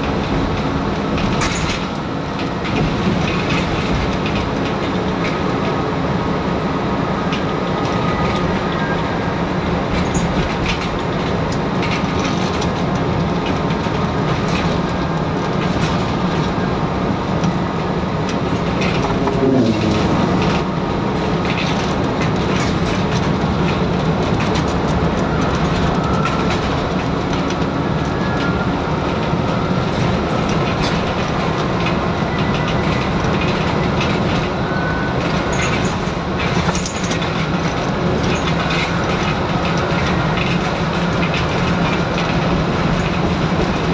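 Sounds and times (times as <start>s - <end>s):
bus body rattling: 0.0s - 43.9s
bus diesel engine drone: 0.0s - 43.9s
road noise: 0.0s - 43.9s.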